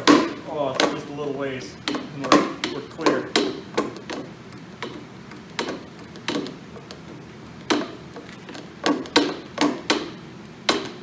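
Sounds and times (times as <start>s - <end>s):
sharp metal knocks: 0.0s - 1.0s, 1.8s - 11.0s.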